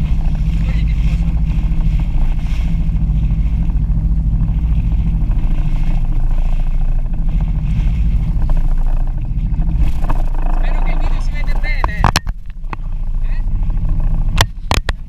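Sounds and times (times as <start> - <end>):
jet ski engine droning: 0.0 - 15.0.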